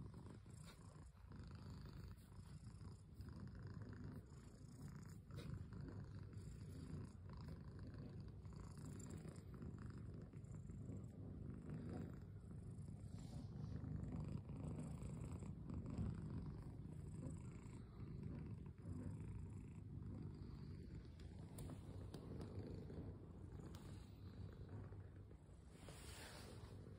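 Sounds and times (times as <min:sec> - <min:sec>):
cat purring: 0:00.0 - 0:26.9.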